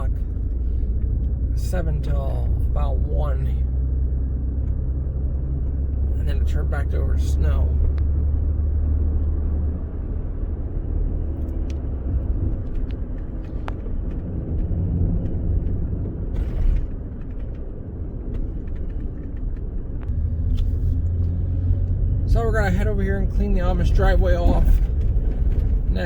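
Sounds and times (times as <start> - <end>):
engine and tyres droning: 0.0 - 26.0.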